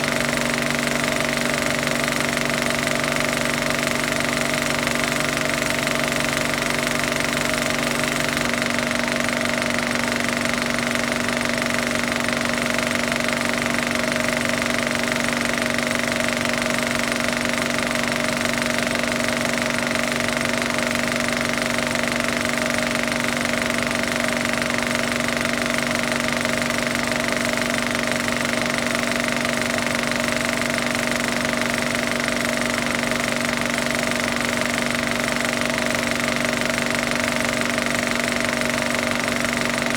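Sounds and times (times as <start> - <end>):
machine humming and rattling: 0.0 - 39.9.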